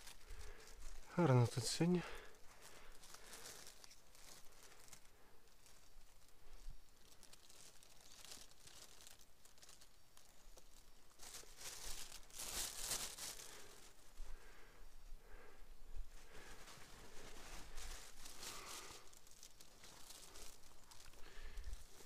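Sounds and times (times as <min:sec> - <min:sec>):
plastic bag crinkling: 0:00.0 - 0:14.6, 0:16.2 - 0:22.0.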